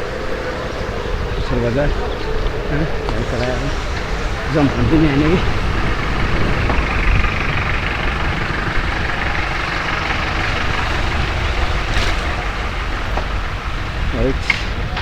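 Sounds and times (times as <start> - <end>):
bicycle tyre and road noise: 0.0 - 15.0
wind buffeting microphone: 0.0 - 15.0.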